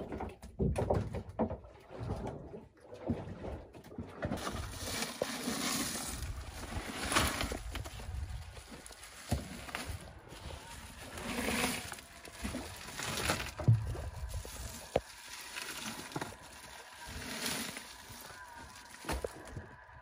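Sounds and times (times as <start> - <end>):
water sloshing against boat hull: 0.0 - 19.9.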